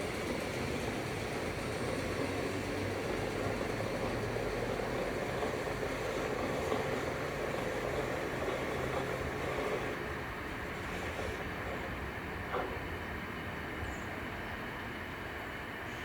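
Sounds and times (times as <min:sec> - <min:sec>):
rail vehicle rumbling: 0:00.0 - 0:16.0.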